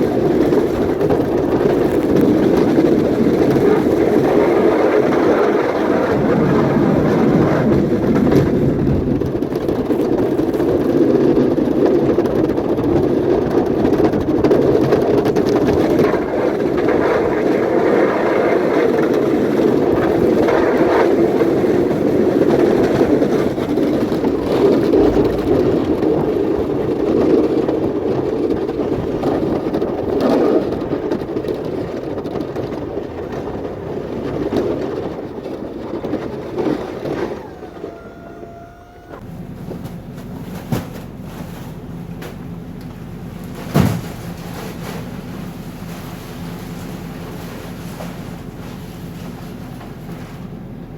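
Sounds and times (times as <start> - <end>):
engine running under load: 0.0 - 50.9.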